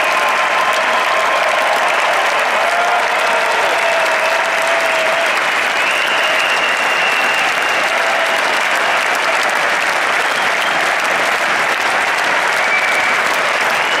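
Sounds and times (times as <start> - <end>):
crowd applauding and cheering: 0.0 - 14.0.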